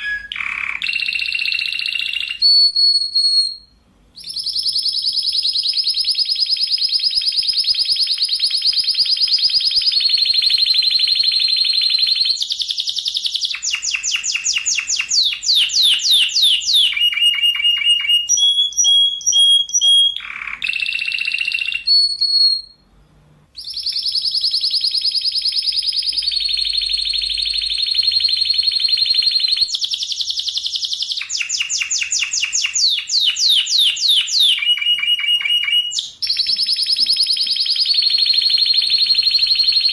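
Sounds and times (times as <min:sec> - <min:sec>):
canary singing trills: 0:00.0 - 0:22.8, 0:23.6 - 0:39.9.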